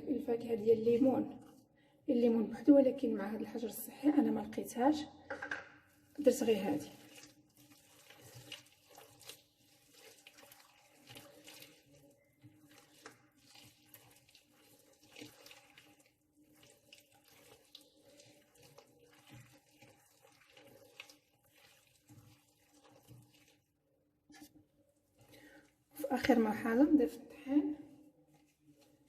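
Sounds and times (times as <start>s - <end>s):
mixture squelching in a bowl: 0.0s - 4.8s, 5.8s - 29.0s.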